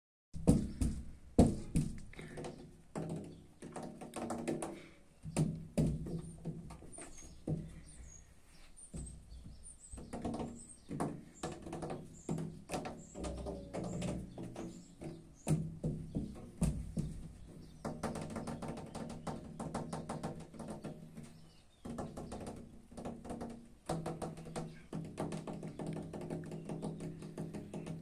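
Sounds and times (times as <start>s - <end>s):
hand knocking on window pane: 0.4s - 6.7s, 9.9s - 21.2s, 21.8s - 28.0s.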